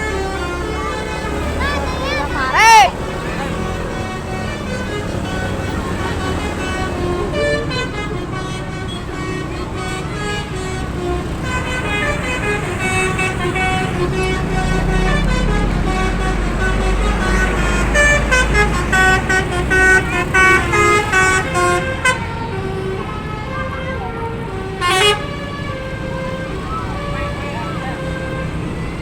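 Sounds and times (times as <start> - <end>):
bus engine low rumble: 0.0 - 29.0
multi-tone bus horn melody: 0.0 - 29.0.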